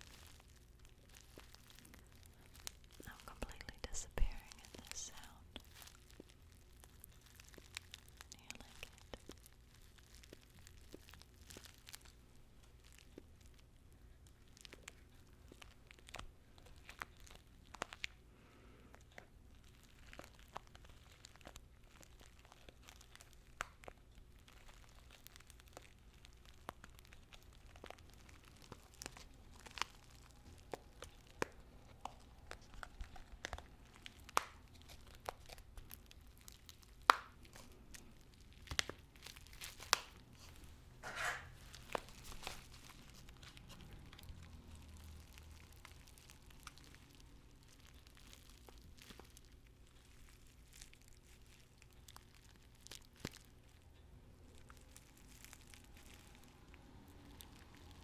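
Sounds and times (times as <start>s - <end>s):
tea bags crinkling: 0.0s - 53.8s, 54.4s - 58.0s.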